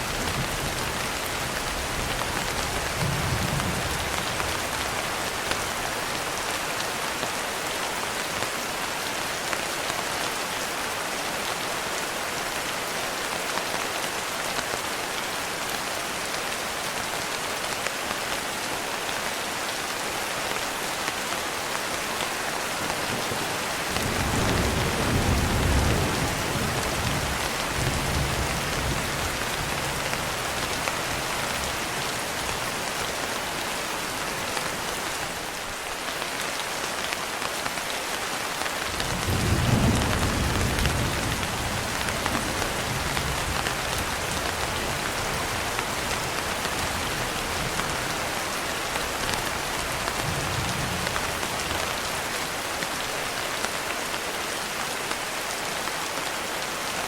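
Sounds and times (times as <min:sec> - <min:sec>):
dense rainfall: 0:00.0 - 0:57.0.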